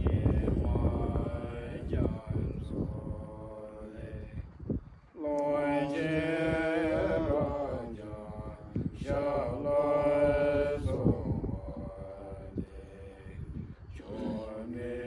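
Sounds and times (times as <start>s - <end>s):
monks chanting: 0.0s - 4.5s, 5.1s - 15.0s.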